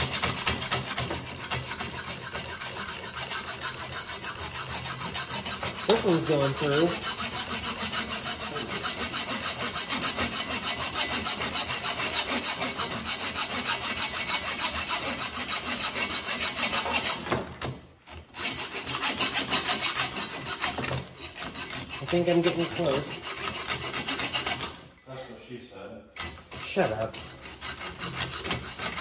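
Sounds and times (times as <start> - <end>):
hacksaw cutting metal: 0.0 - 24.9, 26.2 - 29.0.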